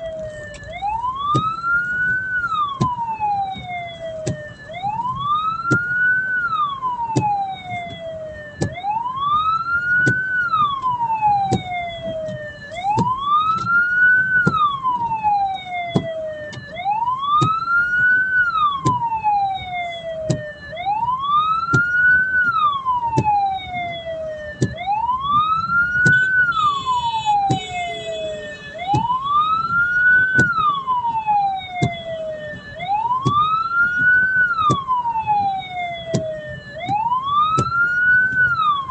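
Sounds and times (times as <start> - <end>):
siren wailing: 0.0 - 38.9.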